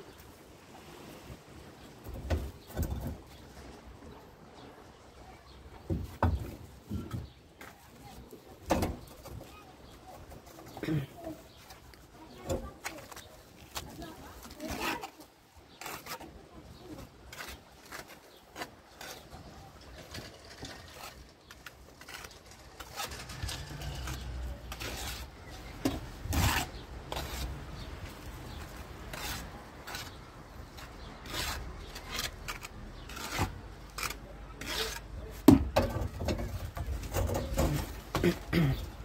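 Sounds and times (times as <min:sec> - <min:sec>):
objects rubbing and scraping: 0:05.9 - 0:39.0.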